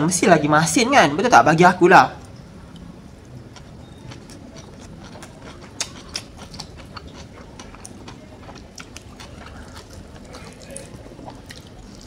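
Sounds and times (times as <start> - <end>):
chewing crunchy fried chicken: 2.2 - 12.0.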